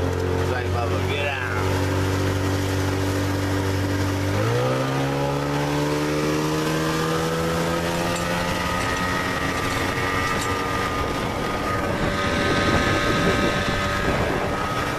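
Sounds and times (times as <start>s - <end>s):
motorboat engine: 0.0s - 14.9s.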